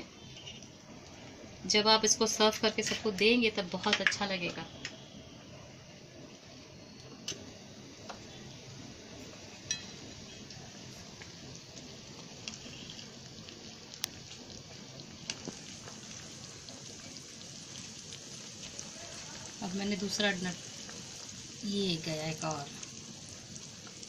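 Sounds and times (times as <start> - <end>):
curry simmering and bubbling: 0.0 - 24.0.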